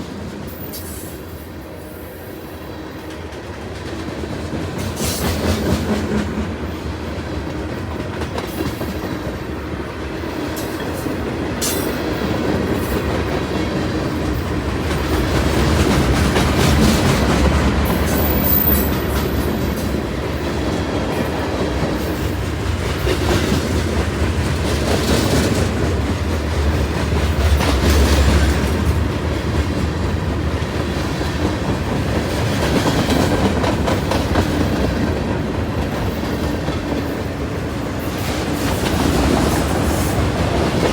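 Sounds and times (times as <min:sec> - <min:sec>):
train wheels clattering: 0:03.0 - 0:40.9.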